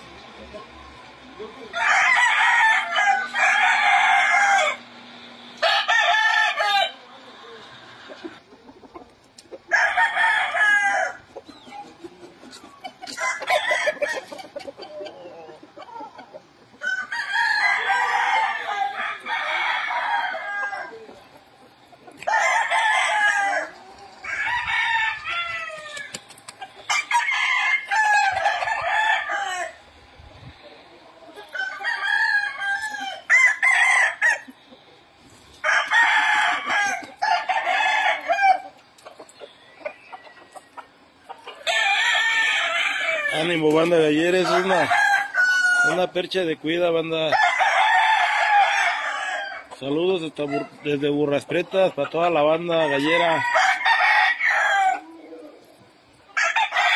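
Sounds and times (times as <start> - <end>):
roosters crowing: 0.0 - 56.9.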